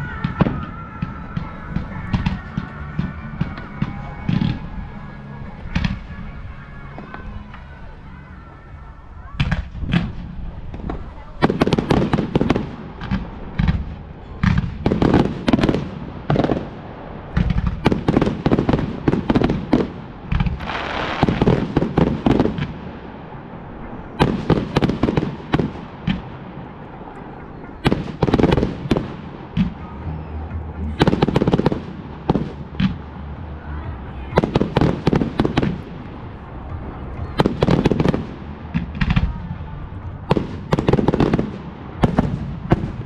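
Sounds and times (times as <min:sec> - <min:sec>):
crackling hiss of fireworks: 0:00.0 - 0:43.0
fireworks bangs: 0:00.0 - 0:43.0.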